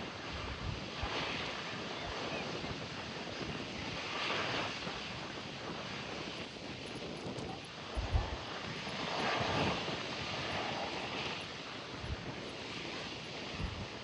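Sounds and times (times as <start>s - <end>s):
gusty wind on microphone: 0.0s - 14.0s.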